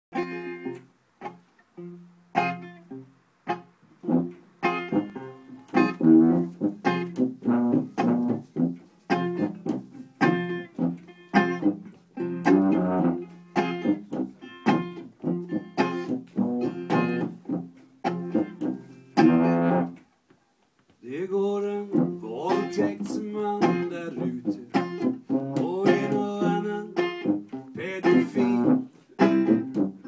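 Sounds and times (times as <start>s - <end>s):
banjo picking: 0.1s - 20.1s, 21.6s - 30.0s
tuba bass notes: 1.8s - 20.0s, 21.9s - 30.0s.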